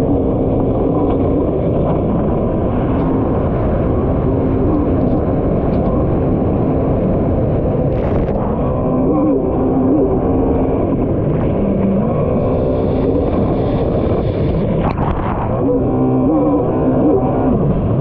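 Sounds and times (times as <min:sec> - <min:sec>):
jet ski engine running hard: 0:00.0 - 0:18.0
water and wind noise: 0:00.0 - 0:18.0.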